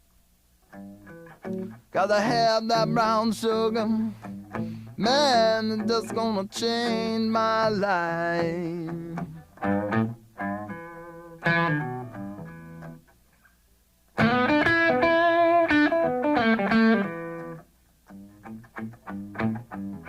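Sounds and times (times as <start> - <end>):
instrumental guitar playing: 0.7 - 13.2, 14.1 - 20.0.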